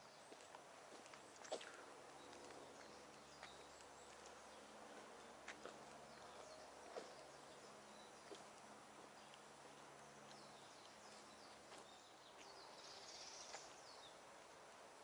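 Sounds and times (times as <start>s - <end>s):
distant bird chirps: 1.1s - 14.2s.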